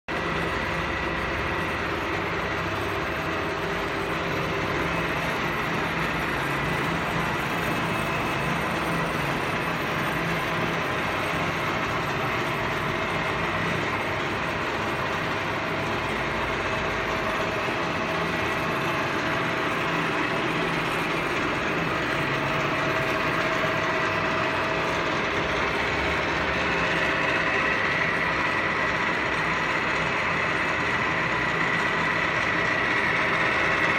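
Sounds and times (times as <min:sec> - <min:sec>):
metal lathe humming and whining: 0:00.1 - 0:33.9.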